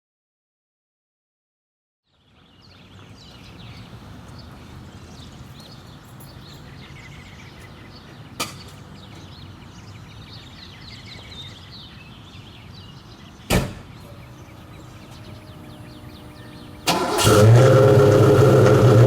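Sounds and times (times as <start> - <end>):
birds chirping: 2.1 - 19.0.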